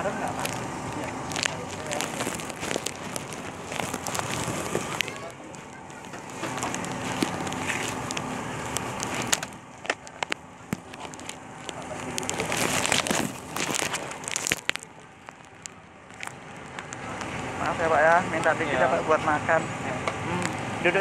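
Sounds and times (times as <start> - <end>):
scattered clicks and clatter: 0.0 - 18.6
steady hiss and low hum: 0.0 - 21.0.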